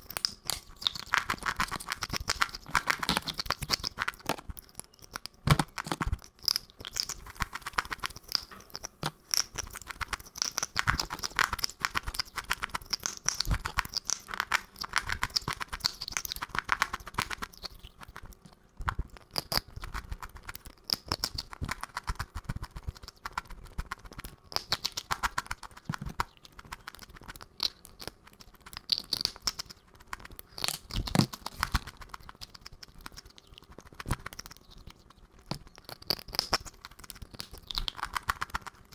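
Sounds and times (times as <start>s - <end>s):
crisp food crunching: 0.0s - 38.9s.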